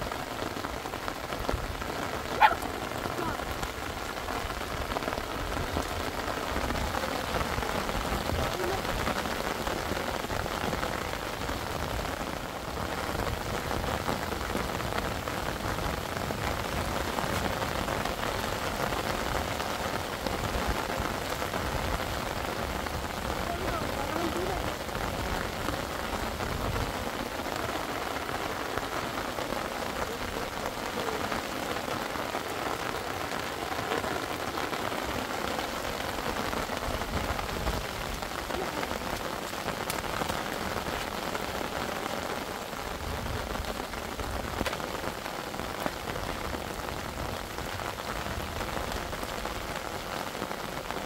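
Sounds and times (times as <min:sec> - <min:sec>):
steady rain patter: 0:00.0 - 0:51.0.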